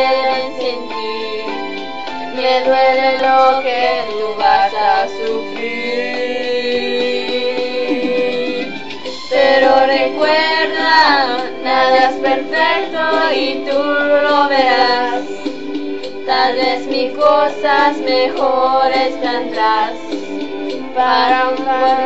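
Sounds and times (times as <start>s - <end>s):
woman singing: 0.0s - 1.6s, 2.3s - 8.3s, 9.3s - 15.4s, 16.3s - 20.0s, 21.0s - 22.0s
instrumental backing: 0.0s - 22.0s.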